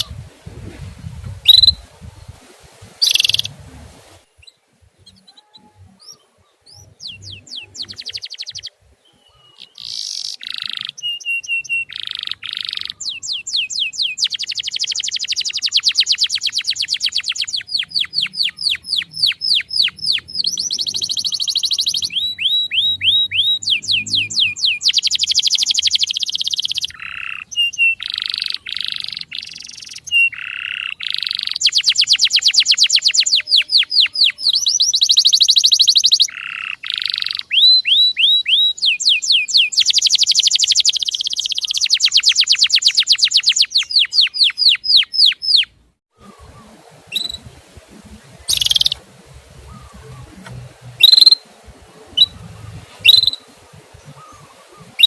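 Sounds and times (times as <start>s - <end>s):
canary singing: 0.0s - 0.2s, 1.4s - 2.2s, 3.0s - 3.6s, 4.3s - 55.0s
faint bird calls: 4.3s - 39.7s, 40.3s - 55.0s.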